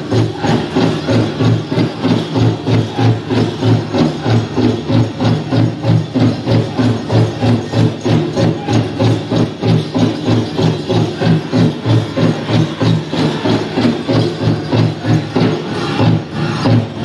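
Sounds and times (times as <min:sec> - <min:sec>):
drum beating steadily: 0:00.0 - 0:17.0.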